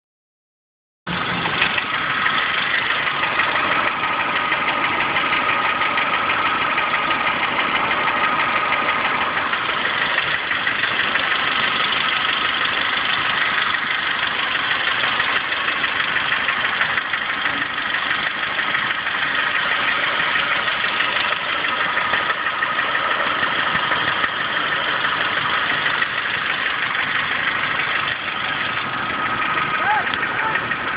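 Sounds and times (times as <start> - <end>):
car engine idling: 1.1 - 30.9
rapid engine knocking: 1.1 - 30.9.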